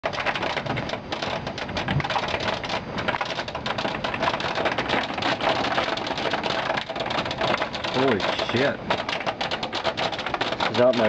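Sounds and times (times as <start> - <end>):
hail clattering: 0.0 - 11.0.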